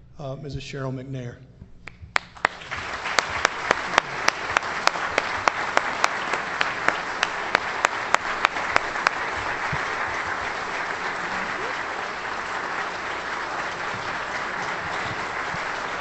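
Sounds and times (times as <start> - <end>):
close sharp hand claps: 1.9 - 16.0
audience applauding: 2.2 - 16.0.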